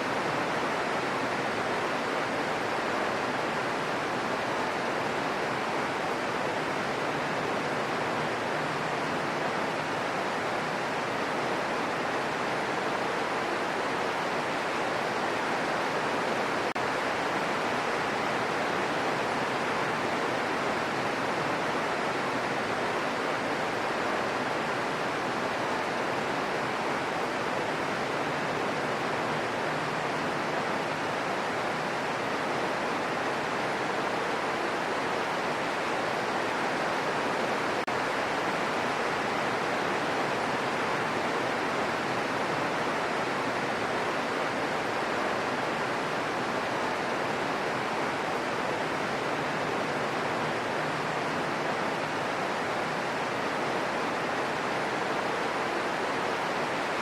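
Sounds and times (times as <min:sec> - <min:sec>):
steady rain in a forest: 0:00.0 - 0:57.0.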